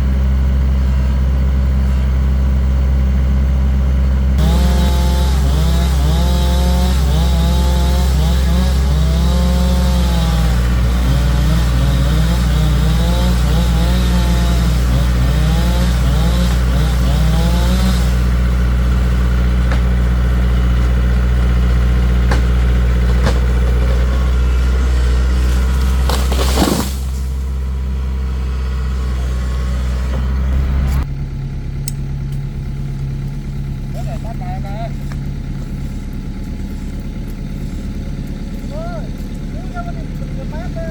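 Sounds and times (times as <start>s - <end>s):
excavator engine humming: 0.0s - 40.9s.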